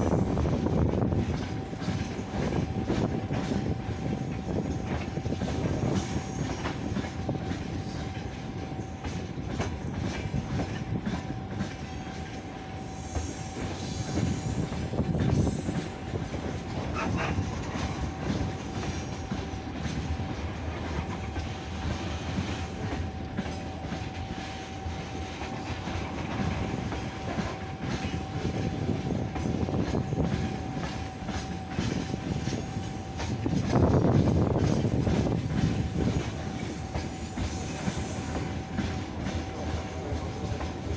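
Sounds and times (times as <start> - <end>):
train wheels clattering over rail joints: 0.1 - 40.9.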